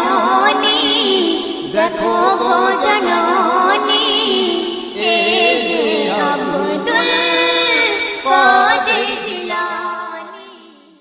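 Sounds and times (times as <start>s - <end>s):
person singing a devotional song: 0.0s - 11.0s.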